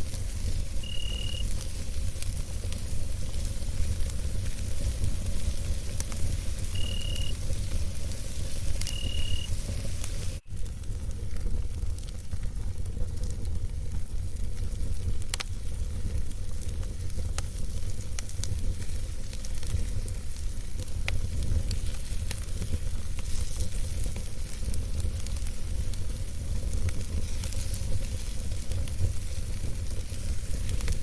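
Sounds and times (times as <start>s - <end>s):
burning wood crackling and popping: 0.0s - 31.0s
hissing sizzle: 0.0s - 31.0s
low rumble of flames: 0.0s - 31.0s.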